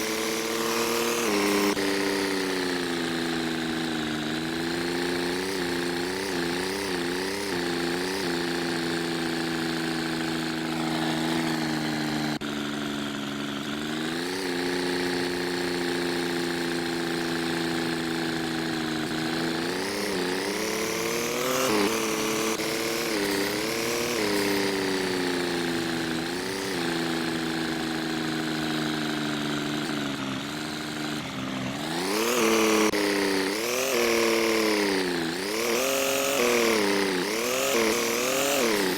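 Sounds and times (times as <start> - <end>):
vehicle engine revving: 0.0 - 38.9.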